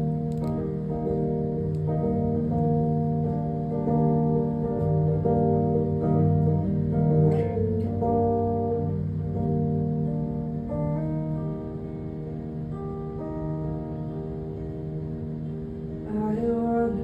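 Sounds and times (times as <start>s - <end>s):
live instrumental music chords: 0.0s - 17.0s.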